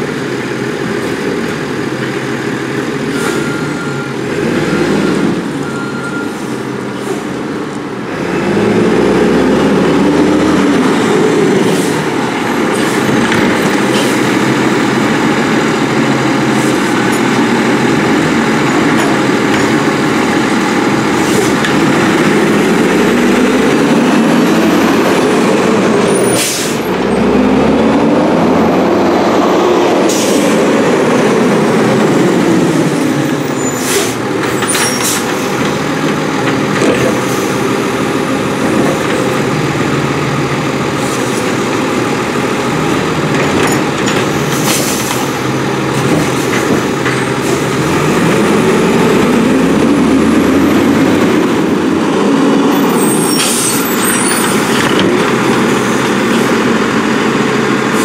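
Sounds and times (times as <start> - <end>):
garbage truck engine revving: 0.0 - 58.0.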